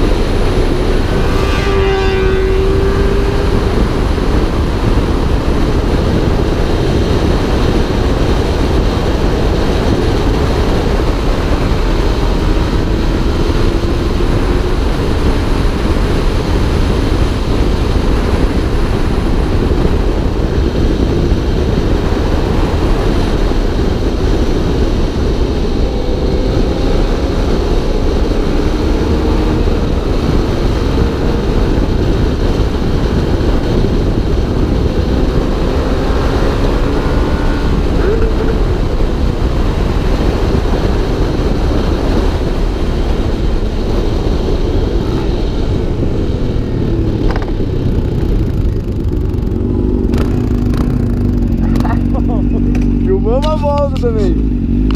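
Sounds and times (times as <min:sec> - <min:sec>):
motorcycle engine running: 0:00.0 - 0:54.9
wind rushing over camera: 0:00.0 - 0:54.9.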